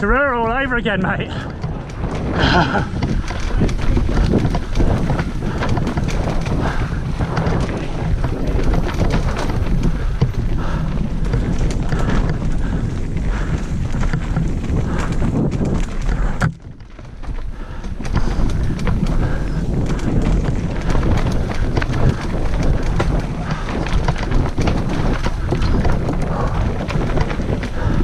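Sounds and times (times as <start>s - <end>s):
mountain bike rattling over rocks: 0.0s - 28.0s
wind rumbling on microphone: 0.0s - 28.0s.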